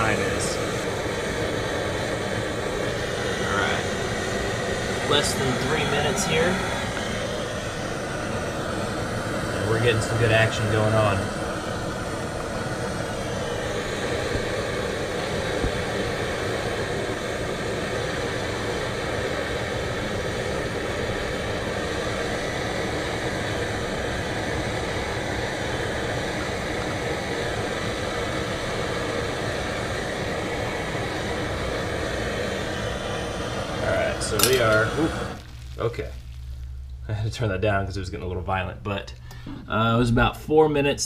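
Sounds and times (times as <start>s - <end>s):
water boiling in pot: 0.0s - 37.0s
stove burning with hiss: 0.0s - 41.0s.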